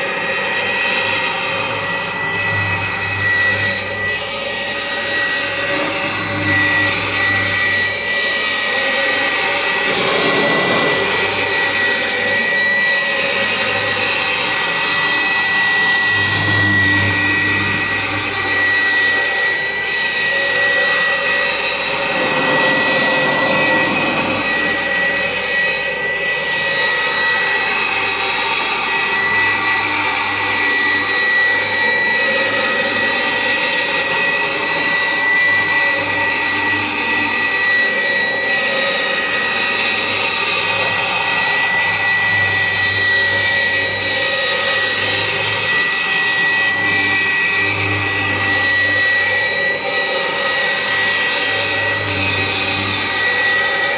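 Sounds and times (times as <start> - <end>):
vacuum cleaner whining: 0.0 - 53.9.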